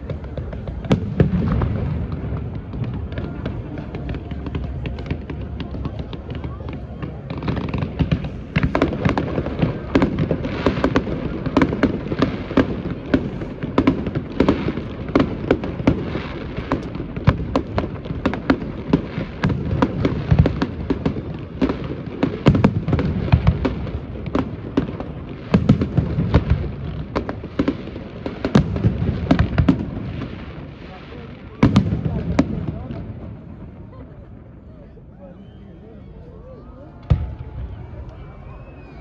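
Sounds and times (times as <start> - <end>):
deep fireworks booms: 0.0 - 34.8, 37.0 - 39.0
fireworks bangs and crackling: 0.0 - 34.9, 36.8 - 39.0.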